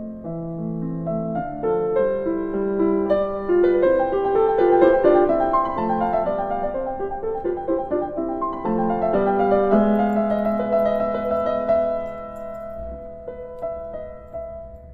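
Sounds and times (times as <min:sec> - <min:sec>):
gentle piano music: 0:00.0 - 0:14.9.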